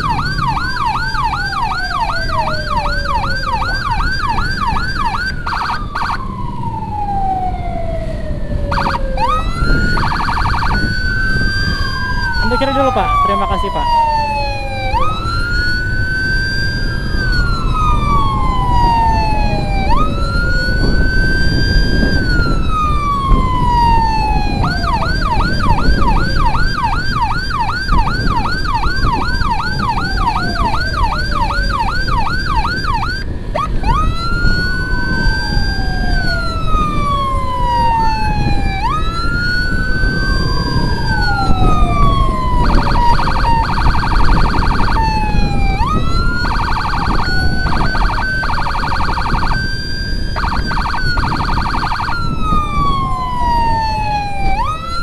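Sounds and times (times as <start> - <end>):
electronic siren wailing and yelping: 0.0 - 55.0
motorcycle road and wind noise: 0.0 - 55.0.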